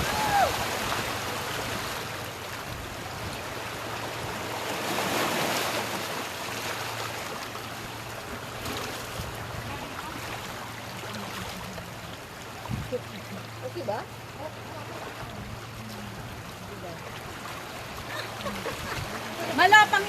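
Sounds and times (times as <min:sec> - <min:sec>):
sea surf washing onto shore: 0:00.0 - 0:20.0.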